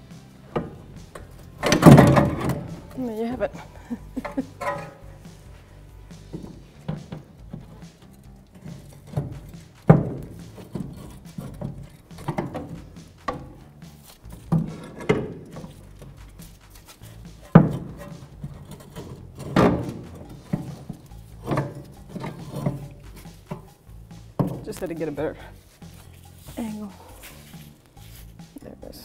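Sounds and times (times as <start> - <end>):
metallic clunks and knocks: 0.4 - 3.0, 3.6 - 25.5.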